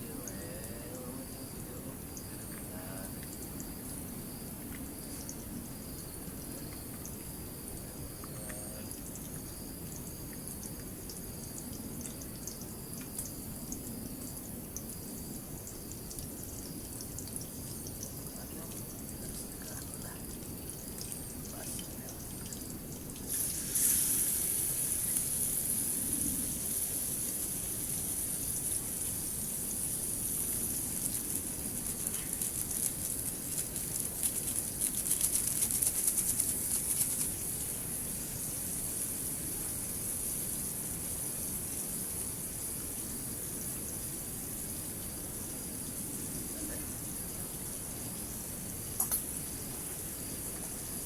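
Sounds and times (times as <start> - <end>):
dense patter of fine ticks: 0.0 - 51.0.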